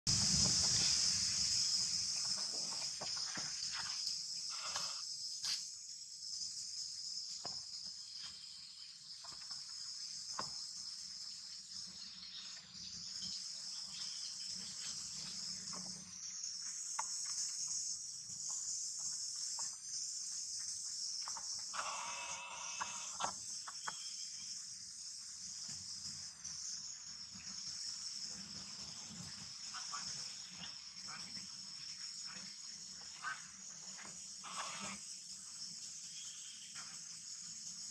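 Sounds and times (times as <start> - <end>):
insect chorus buzzing: 0.1 - 37.9.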